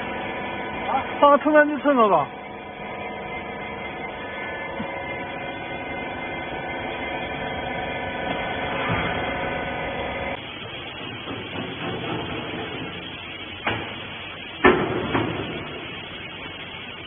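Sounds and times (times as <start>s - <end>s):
electric pump motor humming: 0.0s - 17.0s.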